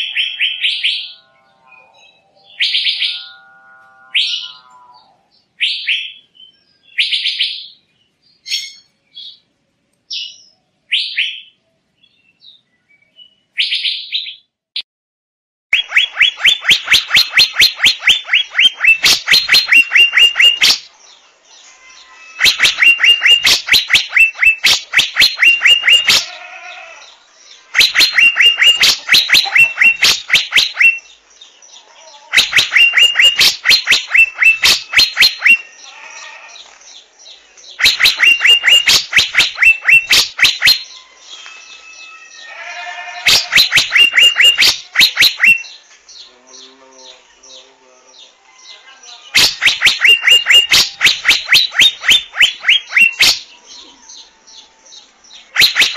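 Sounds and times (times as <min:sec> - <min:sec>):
bird calling sharp ringing notes: 0:00.0 - 0:07.8, 0:15.7 - 0:20.9, 0:21.6 - 0:31.2, 0:32.4 - 0:36.5, 0:37.6 - 0:55.9.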